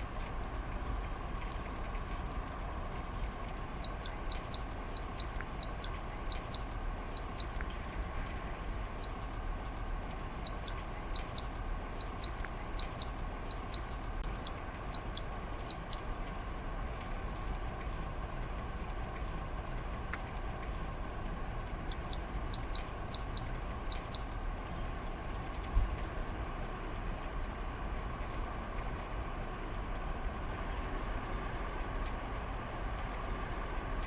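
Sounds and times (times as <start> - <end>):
rain hiss: 0.0 - 34.0.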